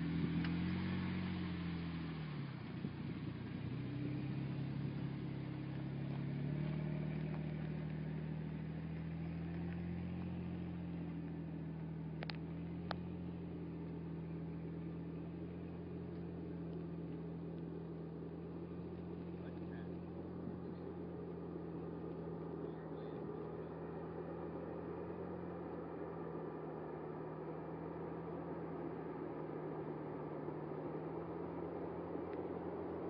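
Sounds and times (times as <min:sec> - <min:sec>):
car engine pulling away: 0:00.0 - 0:33.0.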